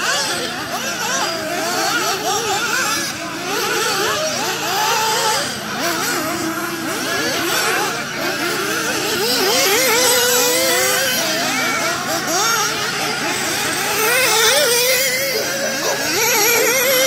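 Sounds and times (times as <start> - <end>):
rc cars engines whining: 0.0 - 17.0.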